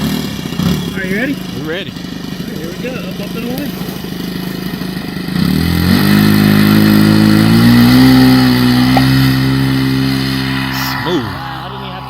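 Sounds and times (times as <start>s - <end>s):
model plane engine revving: 0.0s - 12.0s.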